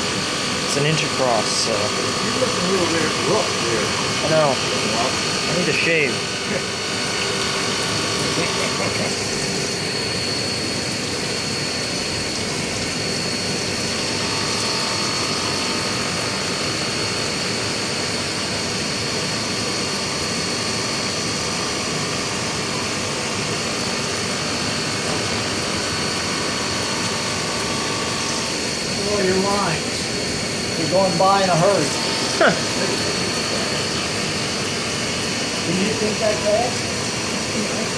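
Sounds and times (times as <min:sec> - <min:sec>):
high whine: 0:00.0 - 0:37.9.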